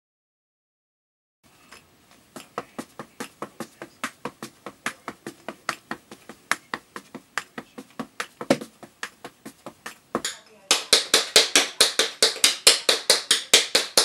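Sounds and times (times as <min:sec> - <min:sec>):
tap shoes clicking on floor: 0:01.7 - 0:14.0.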